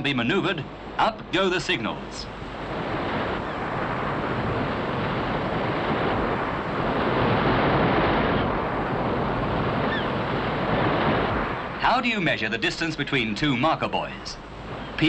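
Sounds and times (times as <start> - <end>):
waves breaking: 0.0 - 15.0
wind rushing: 0.6 - 15.0.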